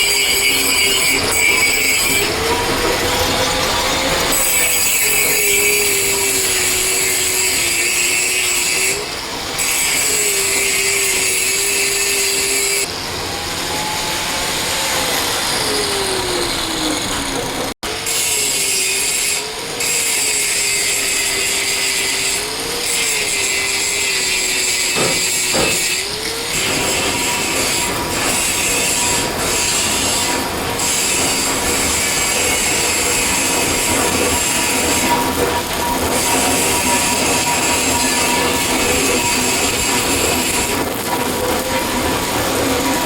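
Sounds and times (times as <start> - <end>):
welding arc hissing: 0.0 - 43.0.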